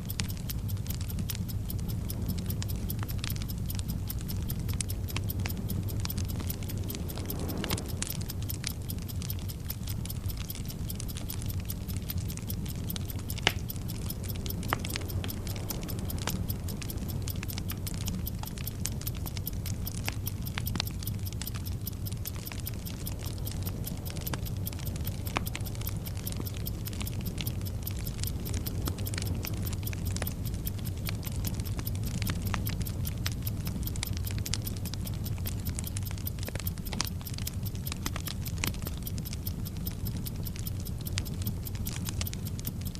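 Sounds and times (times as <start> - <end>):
burning fuse crackle and hiss: 0.0 - 42.9
clock ticking: 0.0 - 42.9
low steady rumble: 0.0 - 42.9.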